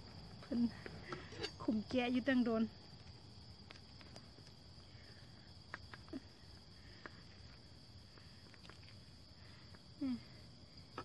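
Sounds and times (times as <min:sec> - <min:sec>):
faint high-pitched hum: 0:00.0 - 0:11.0.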